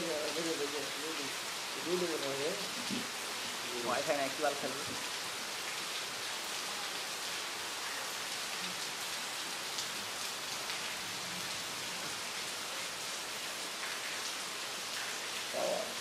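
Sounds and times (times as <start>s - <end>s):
heavy rain on water: 0.0s - 16.0s.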